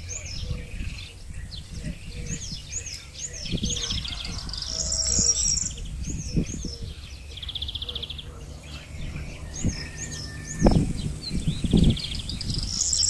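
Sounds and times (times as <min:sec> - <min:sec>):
small birds chirping: 0:00.0 - 0:13.0
buzzy bird trill: 0:02.2 - 0:13.0.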